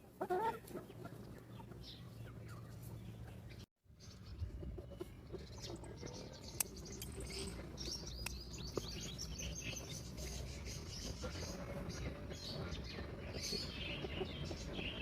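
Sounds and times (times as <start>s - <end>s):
small birds chirping: 0.7s - 15.0s.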